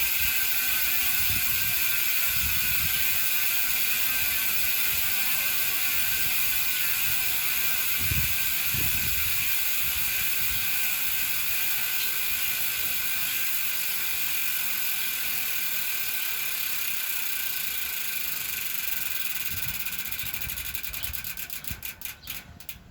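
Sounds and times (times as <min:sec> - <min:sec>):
bicycle freehub ratchet buzzing: 0:00.0 - 0:22.9.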